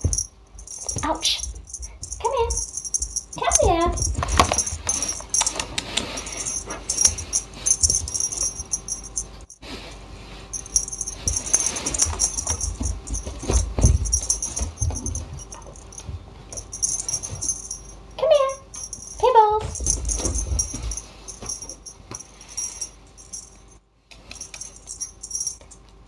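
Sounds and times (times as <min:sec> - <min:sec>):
kitten rustling and scratching: 0:00.0 - 0:18.1, 0:18.7 - 0:25.9.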